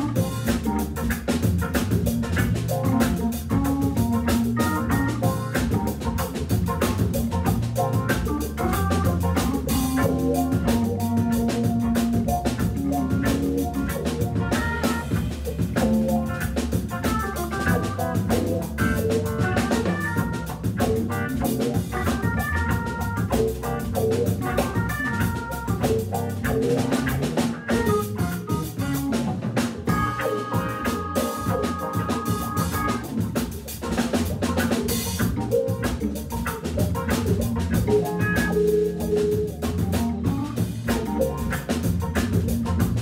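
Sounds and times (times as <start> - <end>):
drum kit: 0.0 - 43.0
electric guitar: 0.0 - 43.0
organ: 0.0 - 43.0.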